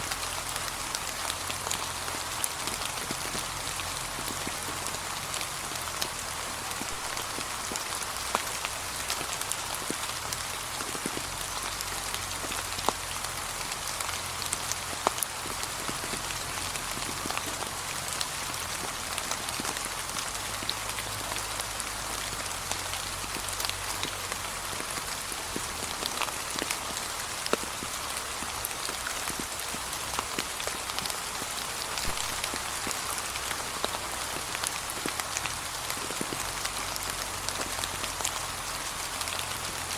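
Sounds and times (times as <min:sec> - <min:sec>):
light rain hissing: 0:00.0 - 0:39.9
raindrops ticking: 0:00.0 - 0:39.9.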